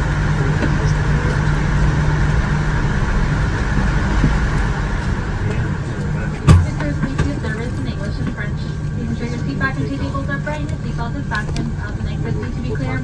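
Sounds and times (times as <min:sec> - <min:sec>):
air-conditioning rush: 0:00.0 - 0:13.0
low steady hum: 0:00.0 - 0:13.0.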